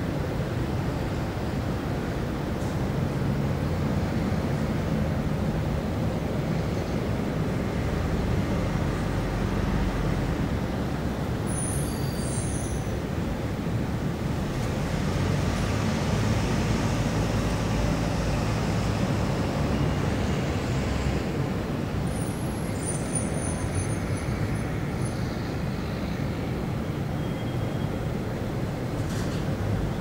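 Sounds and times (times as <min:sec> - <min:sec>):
distant city traffic rumble: 0:00.0 - 0:30.0.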